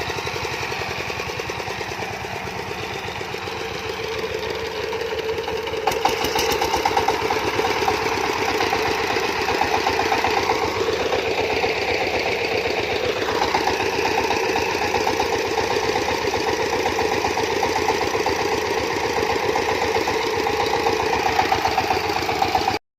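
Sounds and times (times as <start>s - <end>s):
farm engine knocking: 0.0s - 22.8s.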